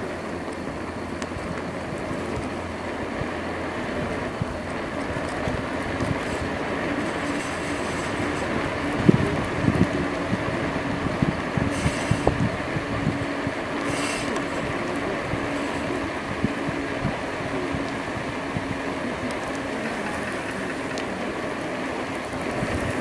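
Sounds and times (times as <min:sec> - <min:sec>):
faint electric motor hum: 0:00.0 - 0:23.0
wind and road rumble: 0:00.0 - 0:23.0.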